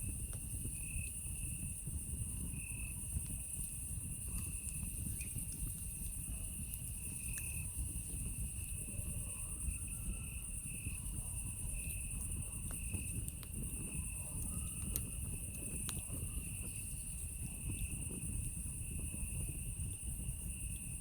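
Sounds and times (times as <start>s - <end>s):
campfire crackling and popping: 0.0s - 21.0s
rush of flames: 0.0s - 21.0s
high insect chorus: 0.1s - 21.0s
lower insect trill: 2.5s - 21.0s.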